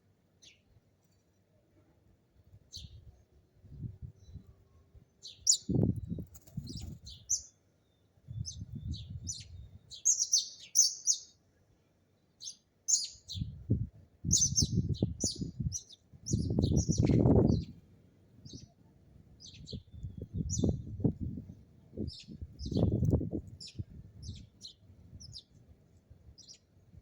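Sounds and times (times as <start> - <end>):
sparrows chirping: 0.4 - 1.5, 2.6 - 18.8, 19.4 - 27.0.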